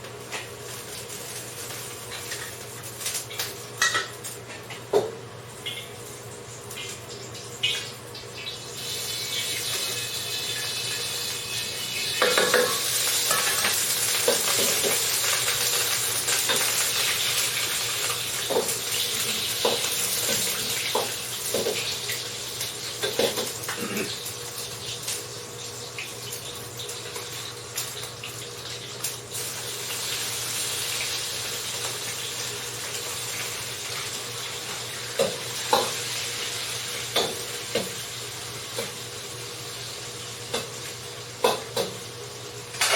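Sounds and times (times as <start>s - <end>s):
food sizzling in oil: 0.0s - 4.9s, 5.5s - 42.9s.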